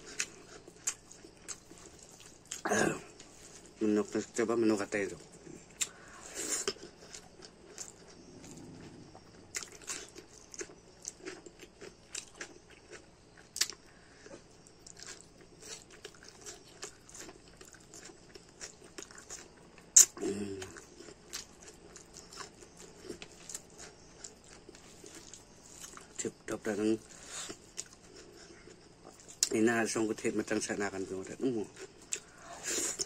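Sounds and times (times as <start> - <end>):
person chewing and smacking: 0.0 - 3.8, 5.7 - 26.3, 27.4 - 29.6, 31.7 - 33.0.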